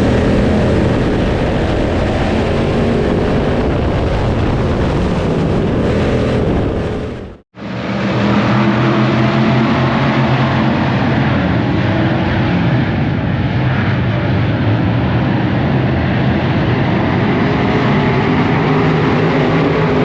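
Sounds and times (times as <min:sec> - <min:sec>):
race car engines running hard: 0:00.0 - 0:20.0.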